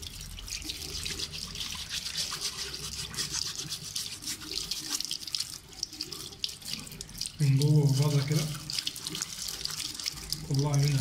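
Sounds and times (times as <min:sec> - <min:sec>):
tap water splashing: 0:00.0 - 0:11.0
toothbrush scrubbing: 0:00.0 - 0:11.0.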